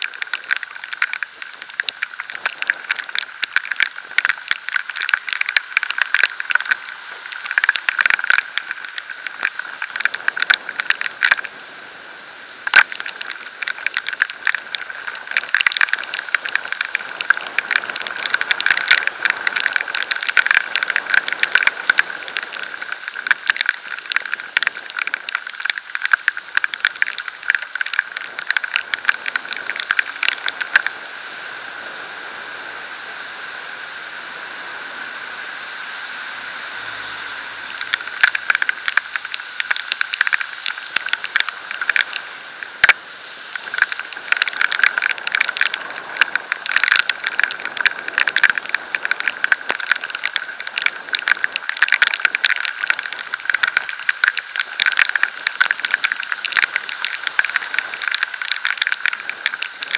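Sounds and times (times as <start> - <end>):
rain drops pelting camera: 0.0 - 59.9.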